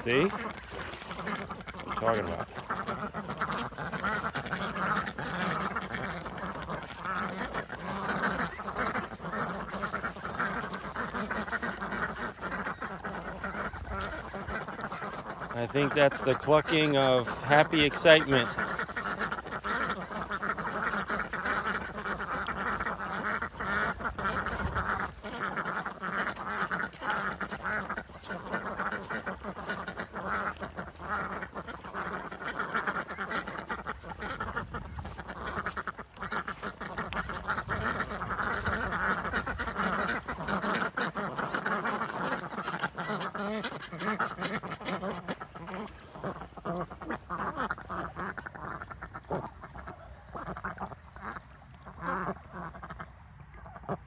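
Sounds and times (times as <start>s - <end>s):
ducks quacking and clucking: 0.0s - 54.0s.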